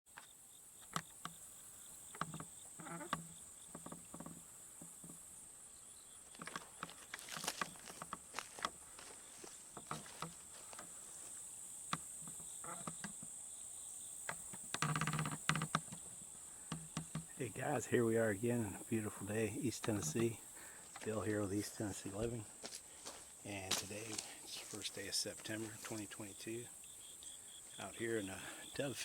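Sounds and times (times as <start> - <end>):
insects droning: 0.1 - 29.0.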